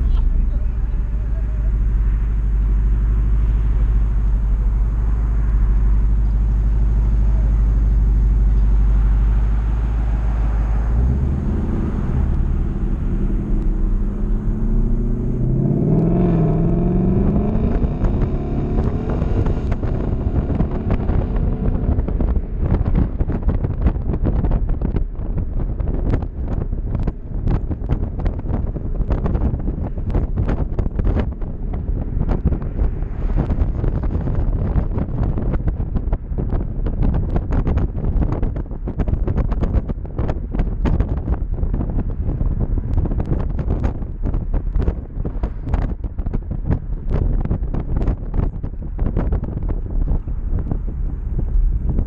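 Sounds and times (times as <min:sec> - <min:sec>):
car engine idling and revving: 0:00.0 - 0:52.0
wind buffeting the microphone: 0:00.0 - 0:52.0.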